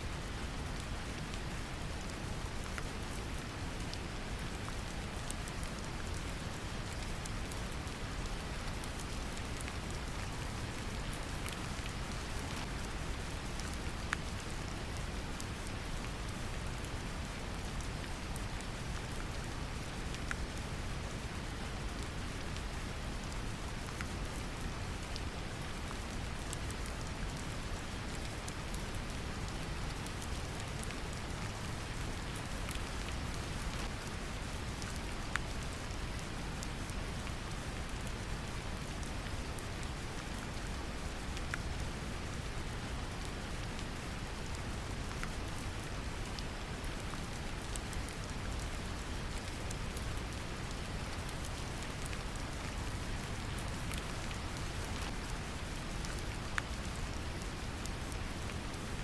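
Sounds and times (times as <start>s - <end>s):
brown noise rumbling hiss: 0.0s - 59.0s
rain pattering: 0.0s - 59.0s.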